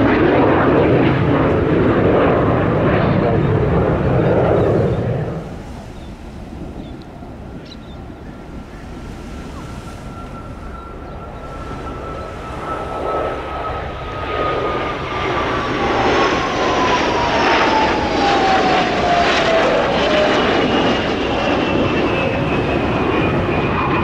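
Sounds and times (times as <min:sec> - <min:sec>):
jet engine whine: 0:00.0 - 0:24.0
jets roaring past: 0:00.0 - 0:24.0.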